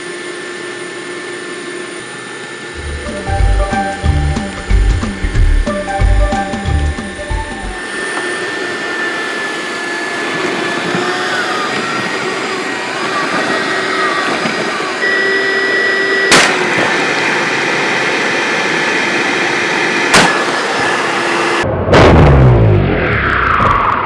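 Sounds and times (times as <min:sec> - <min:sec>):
carpet cleaner motor whining: 0:00.0 - 0:21.7.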